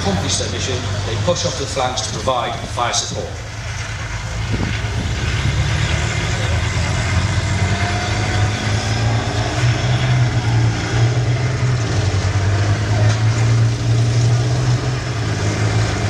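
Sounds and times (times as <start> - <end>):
faint engine whine: 0.0 - 16.0
heavy diesel engines droning: 0.0 - 16.0.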